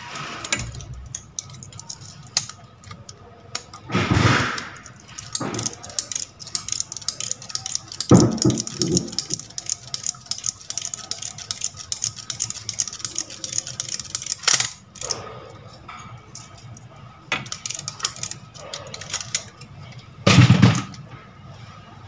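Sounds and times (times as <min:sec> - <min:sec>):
wire winding clicking and rustling: 0:00.0 - 0:20.2.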